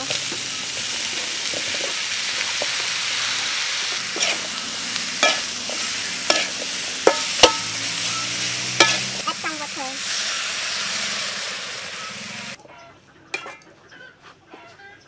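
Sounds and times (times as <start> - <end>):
food sizzling in a wok: 0.0 - 12.6.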